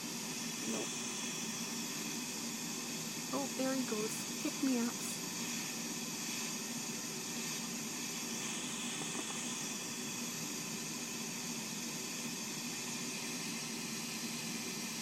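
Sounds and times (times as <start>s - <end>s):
air hissing through breathing circuit: 0.0s - 15.0s.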